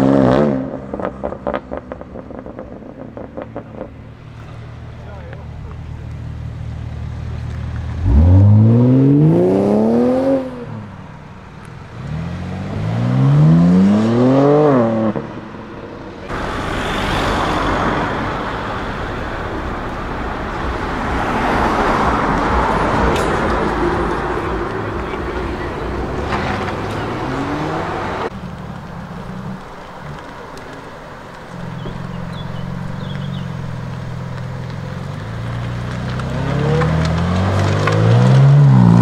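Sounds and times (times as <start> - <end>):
car engine revving: 0.0 - 39.0
rough rush of car noise: 0.0 - 39.0.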